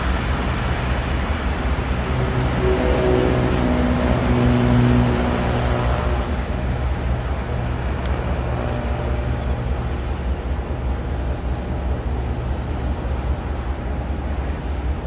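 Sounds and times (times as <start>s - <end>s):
train engine drone: 0.0s - 15.0s
train wheels rumbling on rails: 0.0s - 15.0s.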